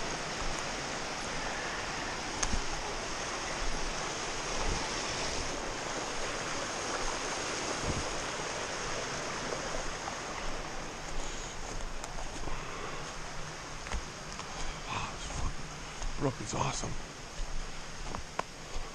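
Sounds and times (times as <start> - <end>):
brook rushing over rocks: 0.0 - 16.4.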